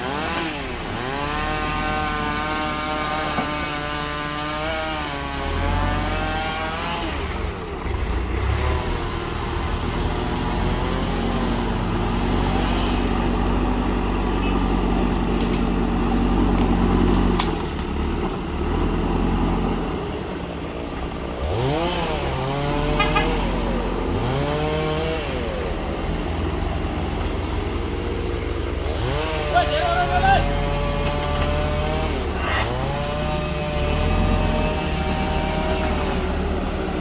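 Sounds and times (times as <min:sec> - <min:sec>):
diesel machinery engine revving: 0:00.0 - 0:37.0.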